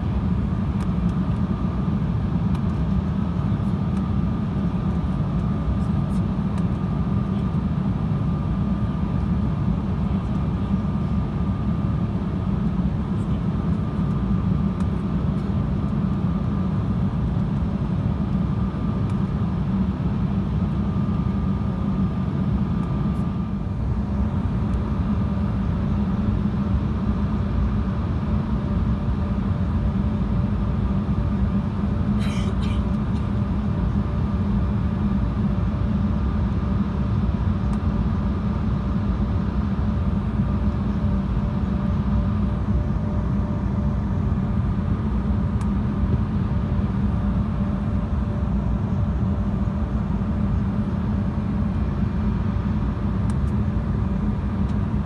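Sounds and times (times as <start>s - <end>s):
faint steady whine: 0.0s - 55.0s
jet engine cabin rumble: 0.0s - 55.0s.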